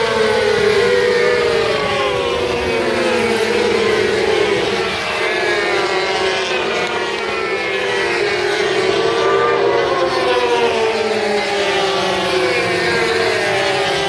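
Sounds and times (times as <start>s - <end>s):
motorcycle engines at high revs: 0.0s - 14.0s.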